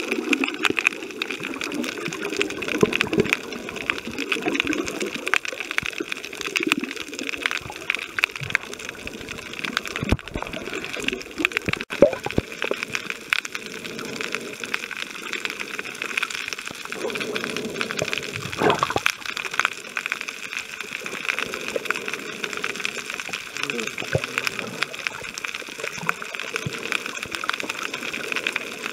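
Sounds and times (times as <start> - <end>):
underwater clicks and crackles: 0.0 - 28.9
water sloshing and bubbling underwater: 0.0 - 28.9.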